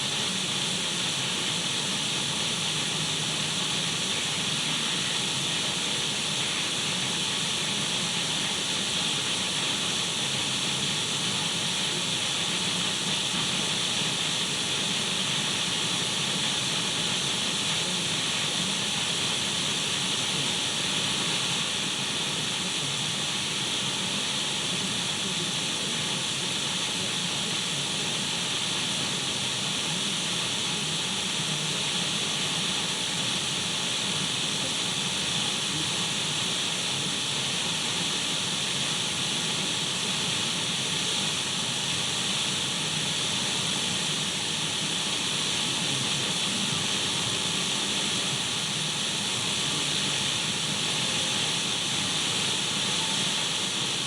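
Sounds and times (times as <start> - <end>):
radio static hiss: 0.0 - 9.8, 11.0 - 54.0.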